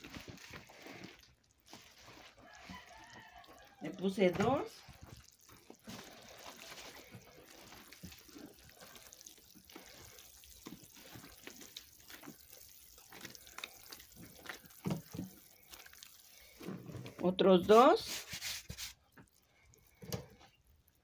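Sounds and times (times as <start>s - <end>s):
hands squelching wet dough: 0.0s - 21.0s.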